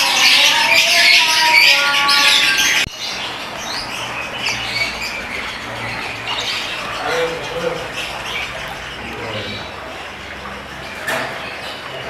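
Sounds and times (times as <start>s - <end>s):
bird chirps: 0.0s - 12.0s
lovebirds chattering and screeching: 0.0s - 12.0s.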